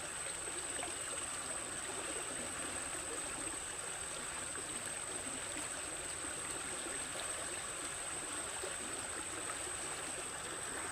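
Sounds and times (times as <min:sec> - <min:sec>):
stream water flowing: 0:00.0 - 0:10.9.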